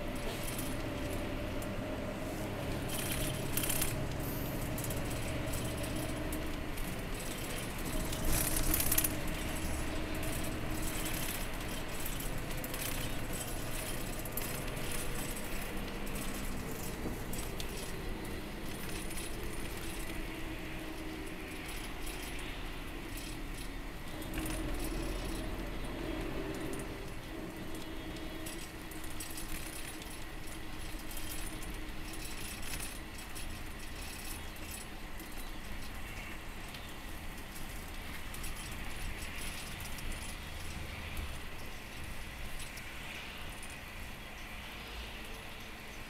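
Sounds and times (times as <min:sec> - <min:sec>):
rattles and jingles of fittings: 0:00.0 - 0:44.8
engine and road drone: 0:00.0 - 0:46.0.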